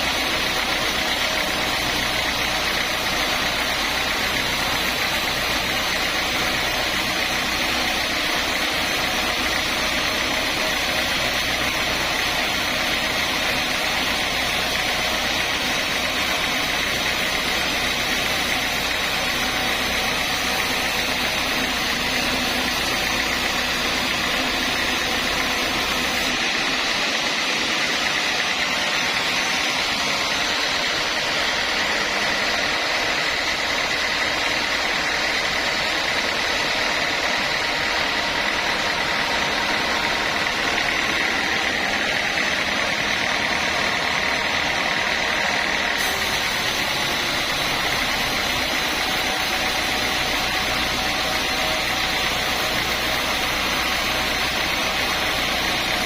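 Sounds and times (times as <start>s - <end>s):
high whine of saw: 0.0s - 56.0s
sawmill saw droning: 0.0s - 56.0s.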